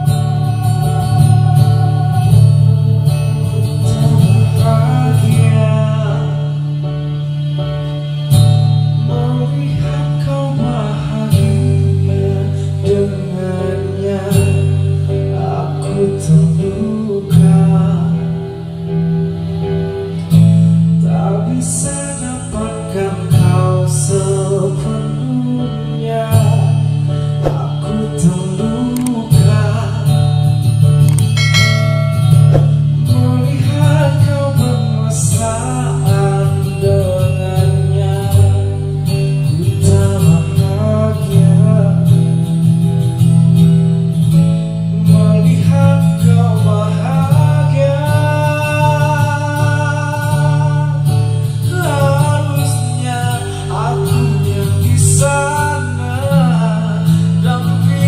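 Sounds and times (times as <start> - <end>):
man singing into a microphone: 0.0 - 20.3, 20.9 - 58.0
backing track with guitar and bass: 0.0 - 58.0.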